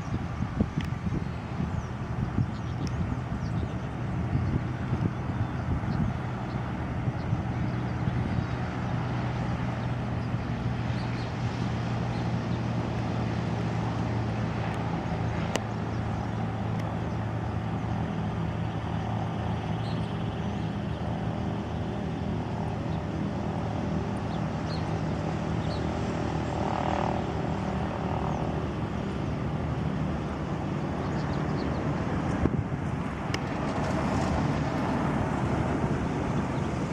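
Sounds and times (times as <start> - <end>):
jet airliner engine drone: 0.0 - 36.9.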